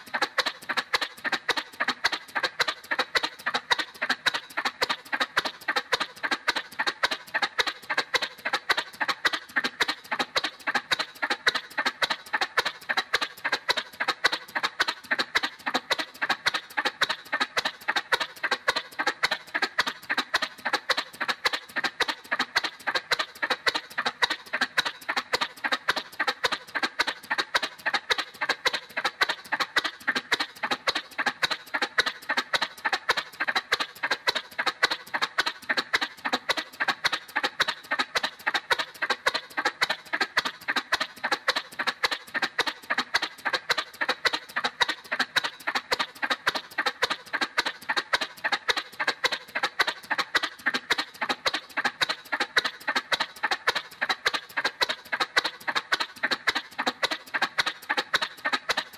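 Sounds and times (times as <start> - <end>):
cartoon motorcycle putt-putt: 0.0 - 58.9.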